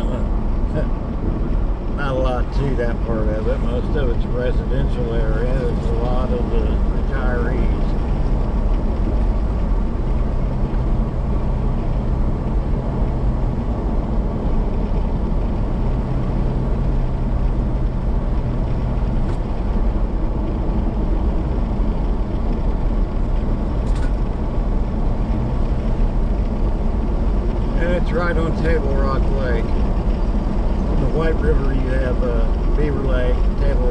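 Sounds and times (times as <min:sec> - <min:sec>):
vehicle cabin road rumble: 0:00.0 - 0:33.9.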